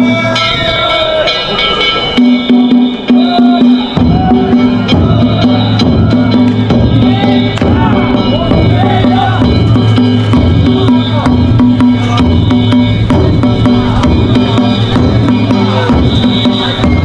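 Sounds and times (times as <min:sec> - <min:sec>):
ringing gong tones: 0:00.0 - 0:17.0
taiko drums: 0:00.0 - 0:17.0
voices calling: 0:00.0 - 0:17.0.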